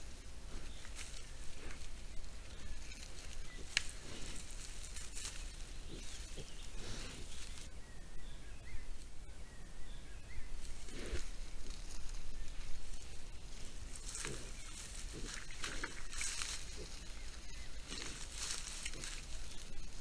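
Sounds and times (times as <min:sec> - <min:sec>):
rustling and snuffling in leaves: 0:00.0 - 0:07.7, 0:10.4 - 0:20.0
faint low animal sounds: 0:00.0 - 0:20.0.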